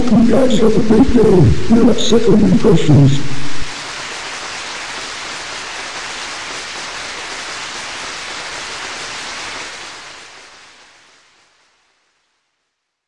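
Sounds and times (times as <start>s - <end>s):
rushing hiss of noise: 0.0s - 12.4s.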